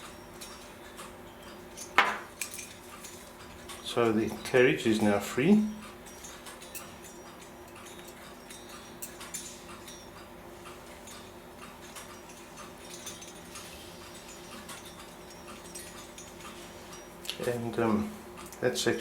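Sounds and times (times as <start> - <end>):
clock mechanism ticking: 0.0 - 19.0
steady low hum: 0.0 - 19.0.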